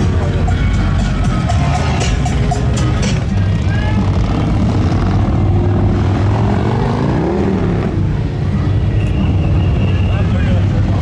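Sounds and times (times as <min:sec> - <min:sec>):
motorcycle engine revving: 0:00.0 - 0:09.8
motorcycle engines rumbling: 0:00.0 - 0:11.0.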